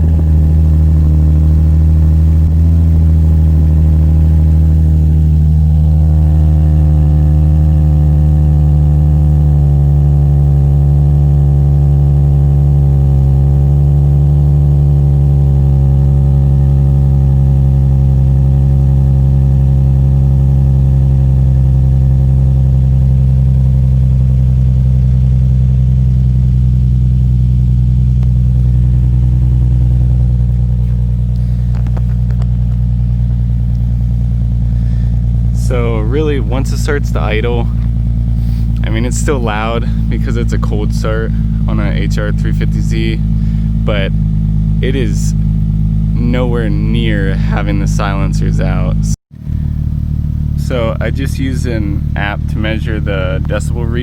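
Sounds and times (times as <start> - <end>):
car engine idling fast: 0.0 - 54.0.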